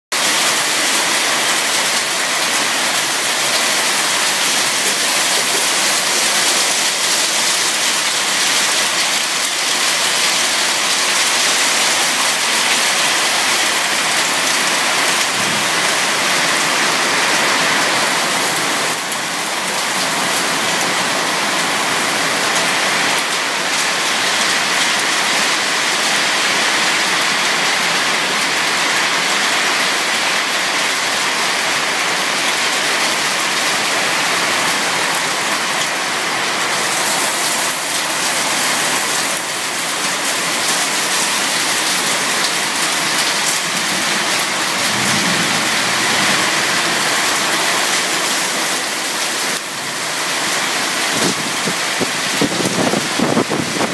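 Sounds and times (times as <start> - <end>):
heavy rain hissing: 0.2 - 53.9.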